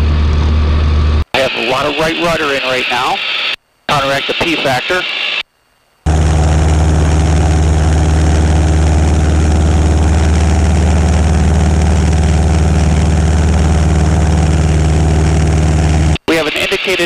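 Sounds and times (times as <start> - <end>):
airplane engine and propeller: 0.0 - 5.4, 6.1 - 17.0.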